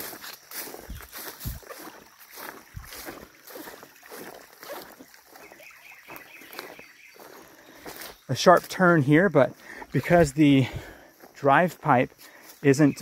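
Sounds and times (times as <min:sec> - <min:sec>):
footsteps through grass: 0:00.0 - 0:13.0.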